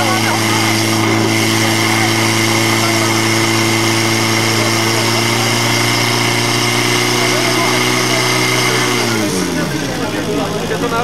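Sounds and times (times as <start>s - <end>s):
fire pump engine running: 0.0s - 11.0s.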